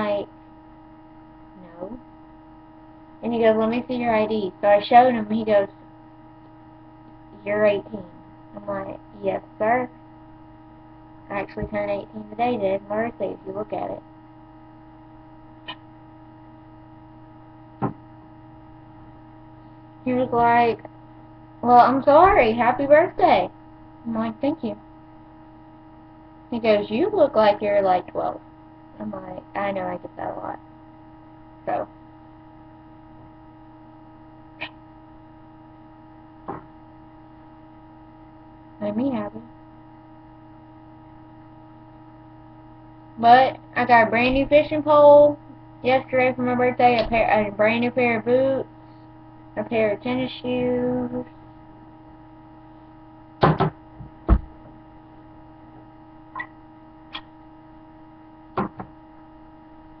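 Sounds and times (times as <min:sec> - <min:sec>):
electrical mains hum: 0:00.0 - 1:00.0.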